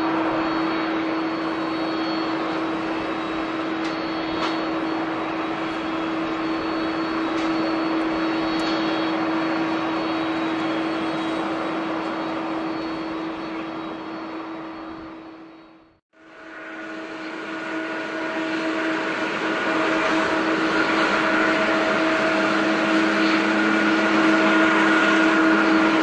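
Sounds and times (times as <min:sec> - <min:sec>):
faint high whine: 0:00.0 - 0:26.0
jet engines roaring: 0:00.0 - 0:26.0.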